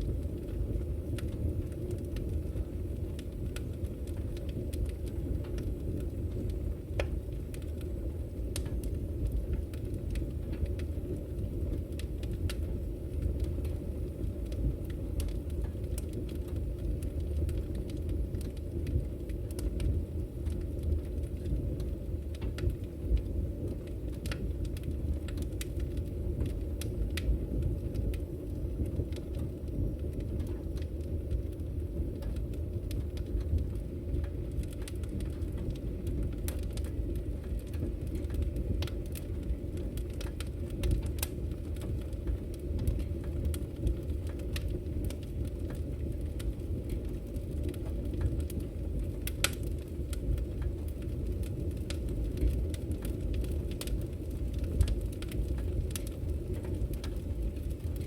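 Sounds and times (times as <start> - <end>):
fire rumbling in fireplace: 0.0 - 58.0
firewood crackling and popping: 0.0 - 58.0.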